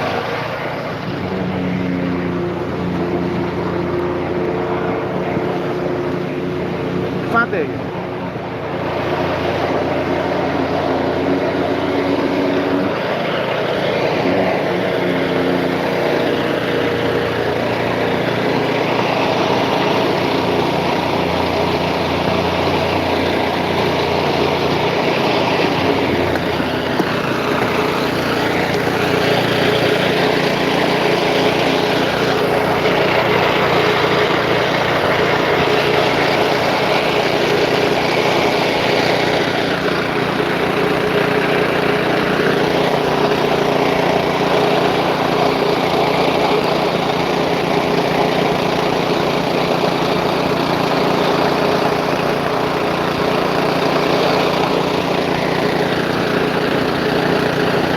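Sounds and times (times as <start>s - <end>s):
machinery engine droning: 0.0s - 57.9s.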